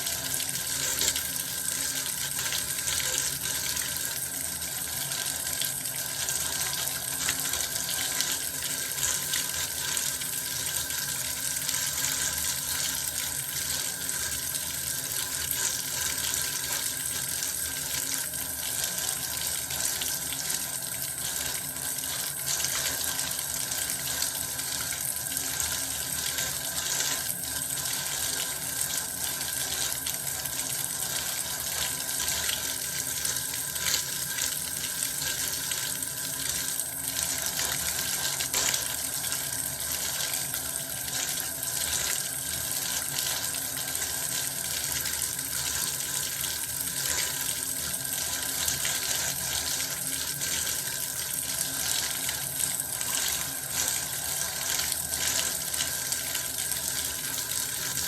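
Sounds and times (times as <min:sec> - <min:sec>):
water running from a tap: 0:00.0 - 0:58.0.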